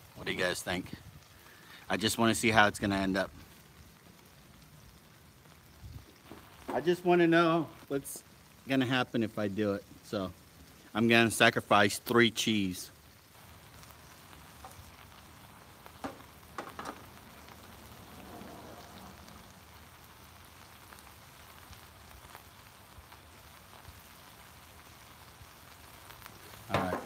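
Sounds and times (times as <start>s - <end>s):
griddle sizzling hiss: 0.0s - 27.0s.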